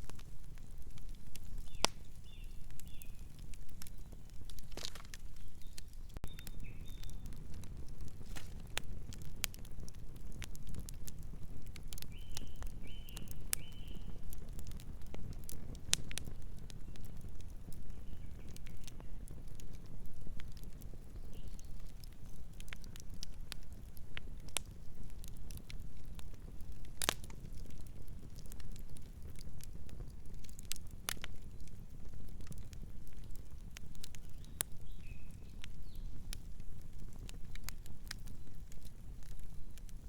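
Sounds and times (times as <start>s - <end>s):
burning wood crackling and popping: 0.0s - 40.0s
campfire low rumble: 0.0s - 40.0s.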